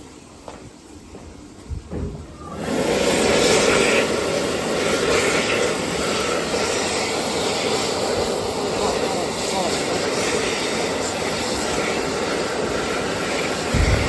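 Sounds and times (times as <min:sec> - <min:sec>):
jet air hand dryer blowing: 0:01.9 - 0:14.0.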